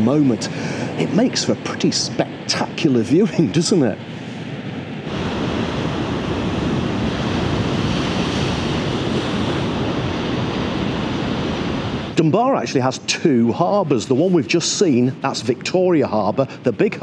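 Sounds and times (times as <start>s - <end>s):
surf crashing on rocky shore: 0.0s - 17.0s.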